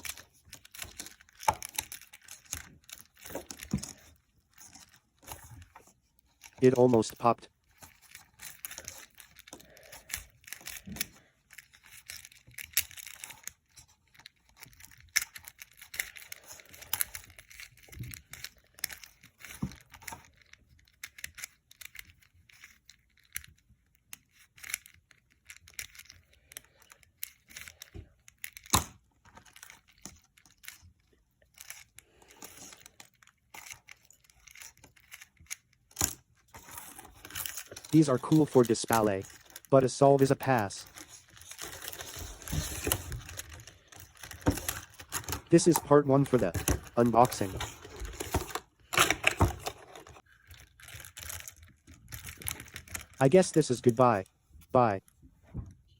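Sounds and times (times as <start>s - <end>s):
plastic puzzle cubes twisting: 0.0s - 55.2s.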